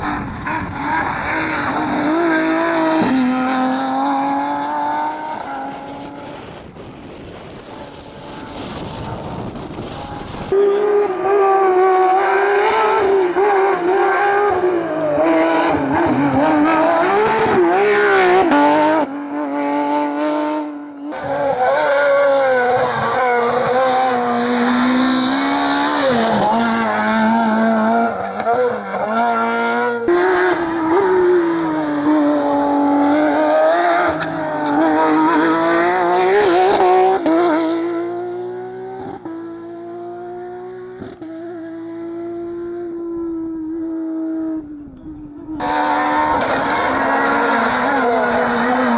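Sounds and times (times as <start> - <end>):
rally car engine at full throttle: 0.0 - 48.9.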